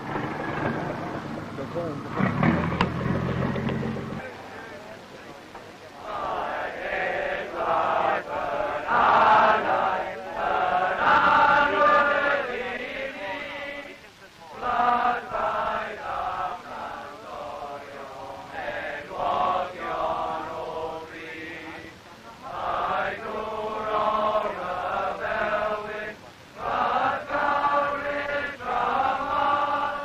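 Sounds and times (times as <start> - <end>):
men chanting in unison: 6.0 - 30.0.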